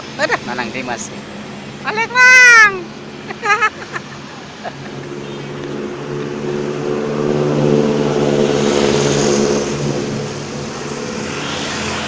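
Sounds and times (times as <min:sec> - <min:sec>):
bus engine passing: 0:00.0 - 0:12.0.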